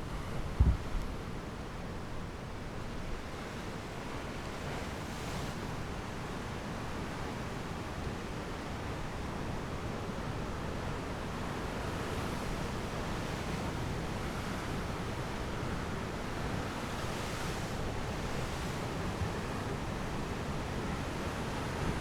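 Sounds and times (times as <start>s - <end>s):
wind: 0.0s - 22.0s.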